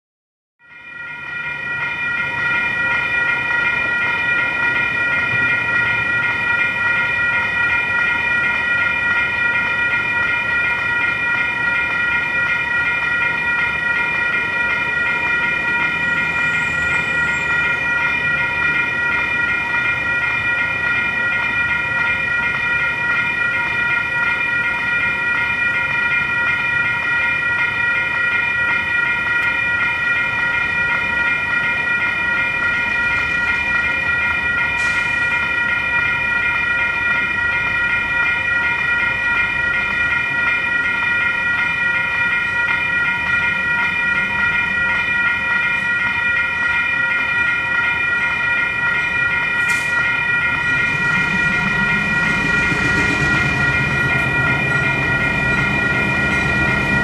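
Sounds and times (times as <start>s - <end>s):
railroad crossing bells ringing: 0.6s - 57.0s.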